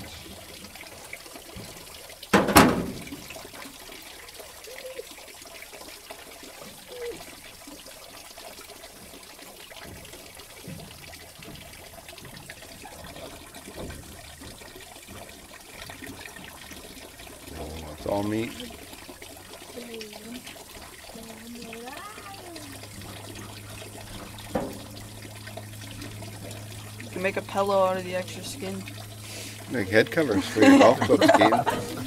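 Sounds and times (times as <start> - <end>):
hose water splashing on board: 0.0 - 32.0.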